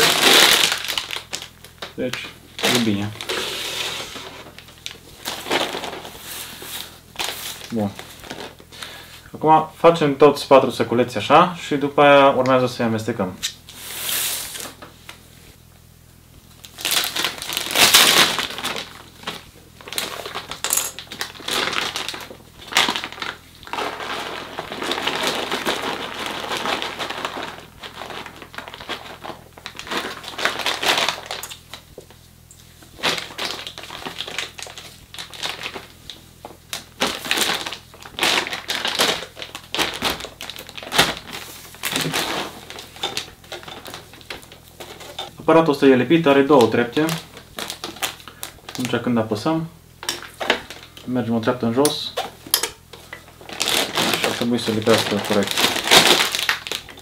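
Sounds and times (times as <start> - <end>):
grains rattling against plastic: 0.0 - 9.0, 16.6 - 32.2, 32.8 - 57.0
plastic bags crinkling: 0.0 - 9.1, 16.5 - 57.0.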